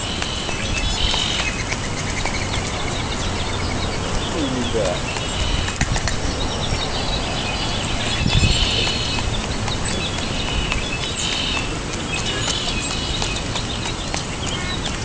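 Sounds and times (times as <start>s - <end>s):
small birds chirping: 0.0s - 15.0s
turkey beak tapping pavement: 0.0s - 15.0s.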